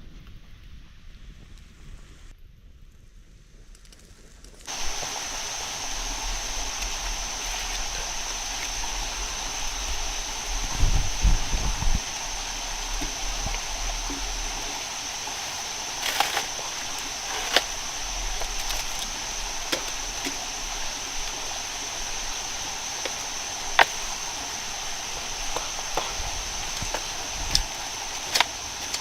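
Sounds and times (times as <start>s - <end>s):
steady rushing like a stream: 4.7s - 29.0s
thin high whine: 4.7s - 29.0s.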